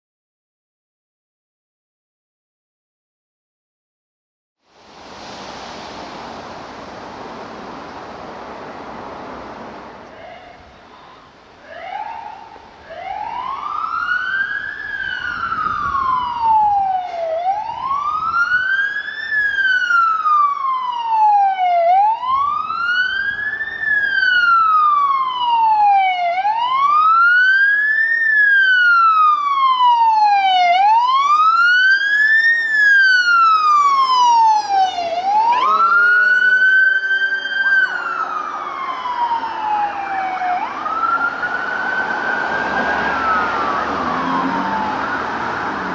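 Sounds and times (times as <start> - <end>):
emergency sirens wailing: 5.7 - 45.9.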